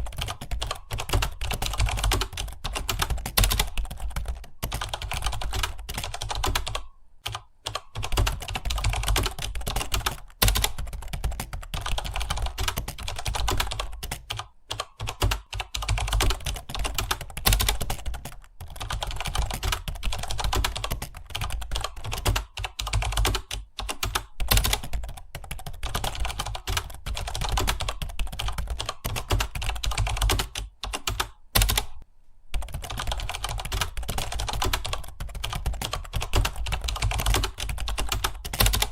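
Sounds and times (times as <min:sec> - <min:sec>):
computer keyboard typing: 0:00.0 - 0:38.9.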